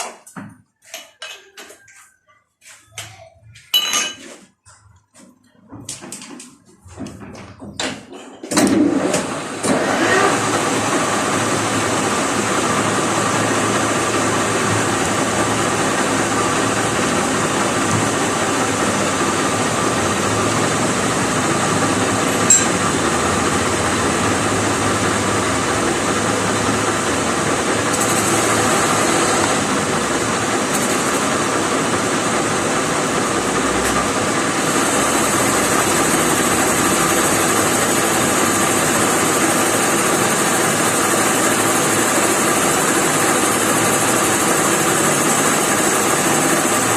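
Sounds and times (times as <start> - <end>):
metal lathe running: 8.8 - 46.9.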